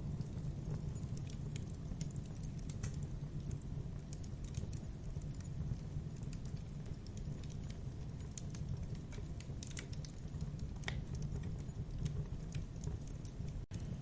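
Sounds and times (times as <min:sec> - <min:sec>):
campfire crackling and popping: 0:00.0 - 0:14.0
low rumble of flames: 0:00.0 - 0:14.0.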